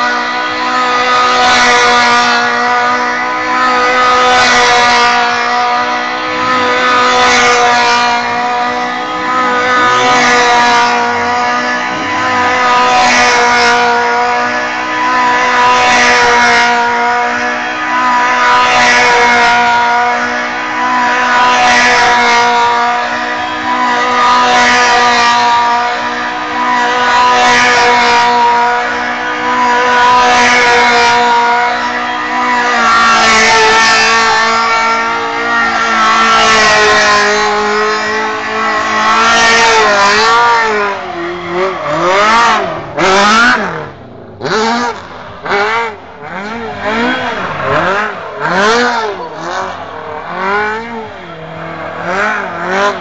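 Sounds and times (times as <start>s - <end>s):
car engine at high revs: 0.0s - 53.0s.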